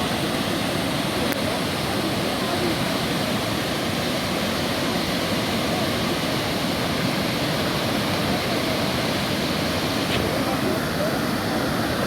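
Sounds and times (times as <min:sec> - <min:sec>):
waterfall pouring into a pool: 0:00.0 - 0:12.0.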